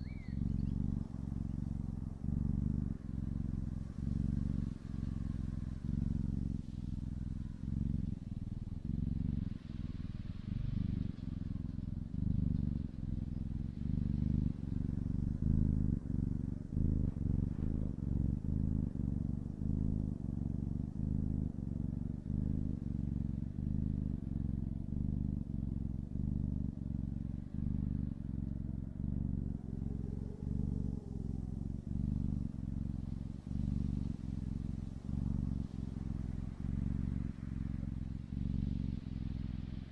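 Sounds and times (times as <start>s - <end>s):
kitten purring: 0.0s - 39.9s.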